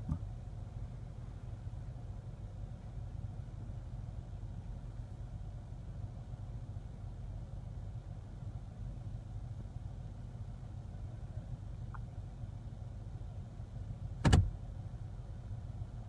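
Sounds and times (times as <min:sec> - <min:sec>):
car engine hum and rumble: 0:00.0 - 0:16.0.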